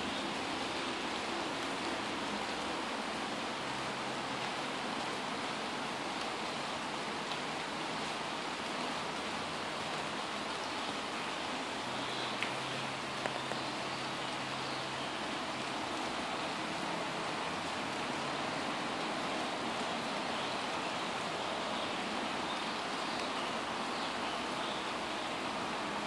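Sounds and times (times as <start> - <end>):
rain falling on foliage: 0.0 - 26.0.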